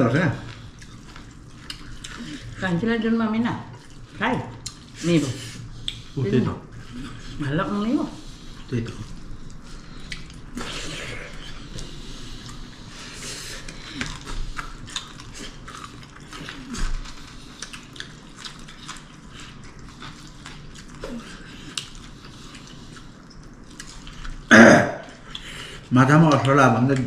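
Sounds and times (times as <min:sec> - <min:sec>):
person chewing and smacking: 0:00.0 - 0:02.6, 0:03.7 - 0:05.0, 0:05.6 - 0:07.4, 0:08.5 - 0:27.0.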